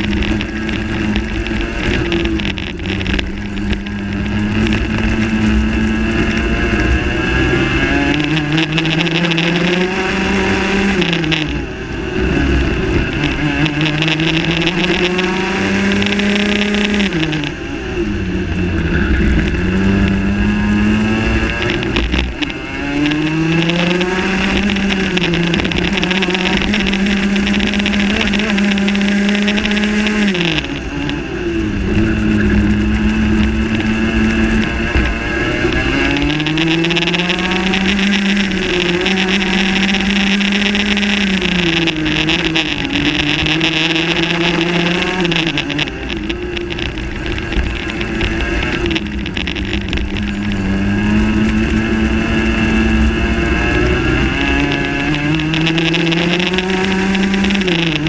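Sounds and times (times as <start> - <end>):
kart engine at full throttle: 0.0 - 58.0.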